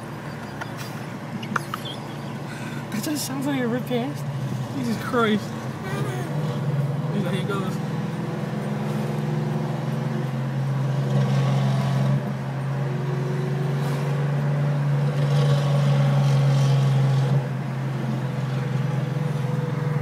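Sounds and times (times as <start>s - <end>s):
car engine deep drone: 0.0s - 20.0s.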